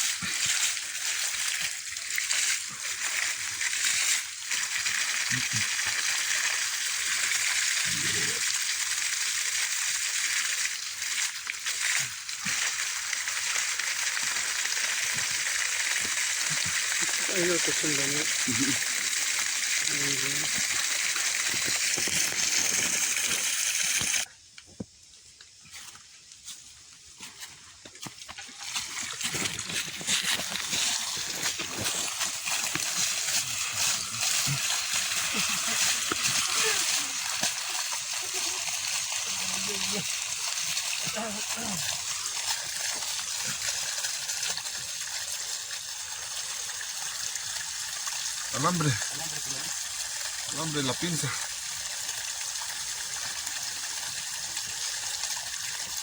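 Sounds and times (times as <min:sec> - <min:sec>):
small water splashes: 0:00.0 - 0:24.3, 0:28.2 - 0:56.0
water spraying from broken pipe: 0:00.0 - 0:24.3, 0:27.9 - 0:56.0.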